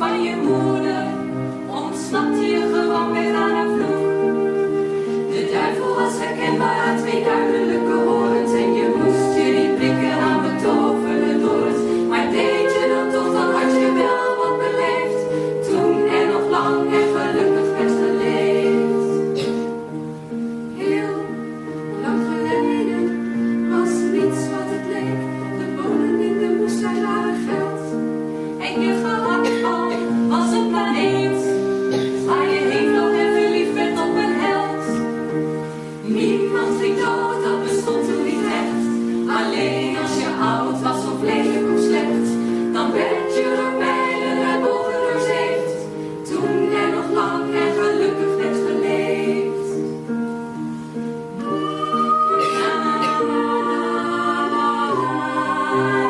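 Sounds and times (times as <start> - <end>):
women singing in harmony: 0.0 - 56.0.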